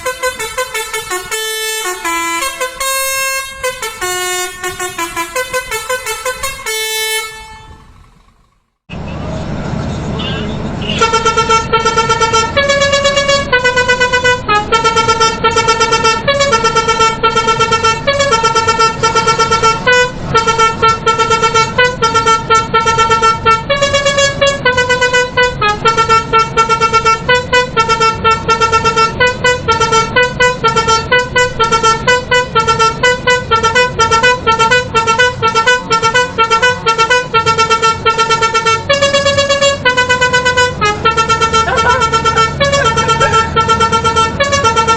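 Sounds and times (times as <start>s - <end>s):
musical air horn tune: 0.0s - 8.2s, 10.9s - 44.9s.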